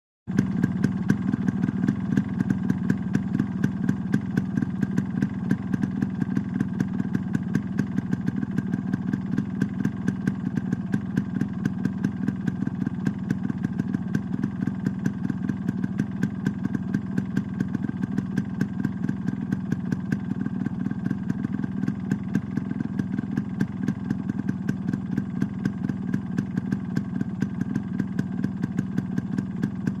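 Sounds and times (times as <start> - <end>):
two-stroke engine idling: 0.3 - 30.0.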